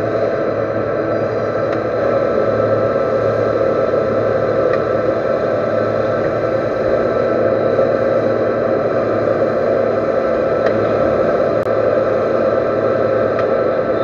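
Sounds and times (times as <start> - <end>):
metal lathe running: 0.0 - 14.0.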